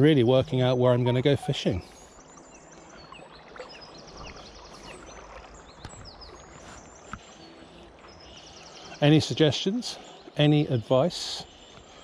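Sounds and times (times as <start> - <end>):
small birds singing: 0.0 - 12.0.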